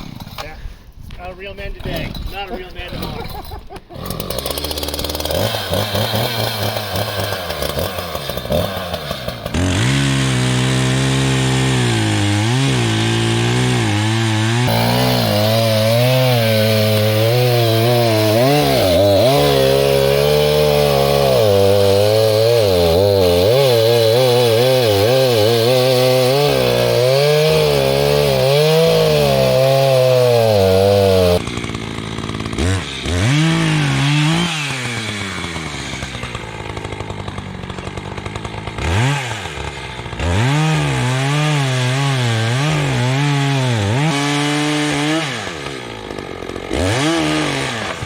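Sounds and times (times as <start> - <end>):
reciprocating saw cutting log: 1.8 - 48.0.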